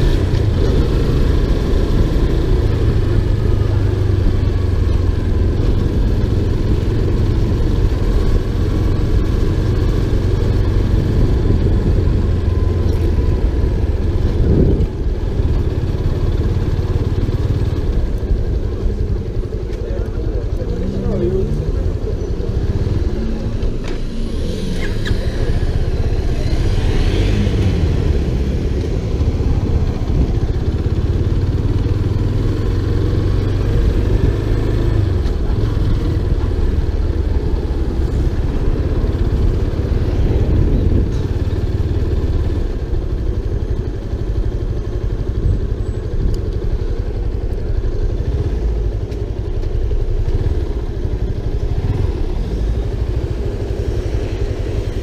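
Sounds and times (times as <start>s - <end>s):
motorcycle engine rumble: 0.0s - 55.0s.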